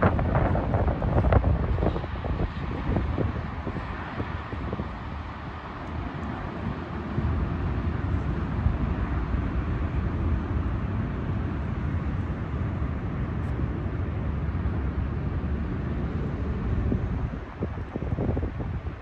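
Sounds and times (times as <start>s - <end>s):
wind buffeting the microphone: 0.0s - 19.0s.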